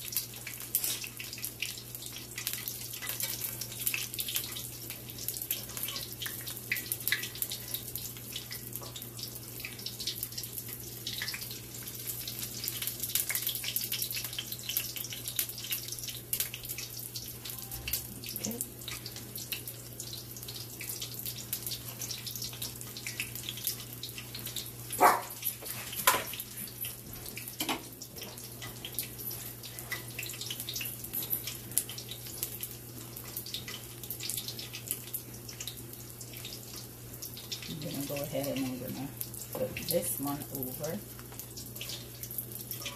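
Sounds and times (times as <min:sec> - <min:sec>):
fritters sizzling in hot oil: 0:00.0 - 0:42.9.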